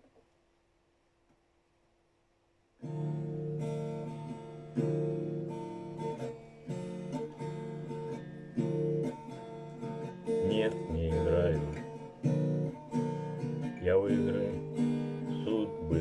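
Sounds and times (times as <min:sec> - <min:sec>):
acoustic guitar strumming chords: 0:02.8 - 0:16.0.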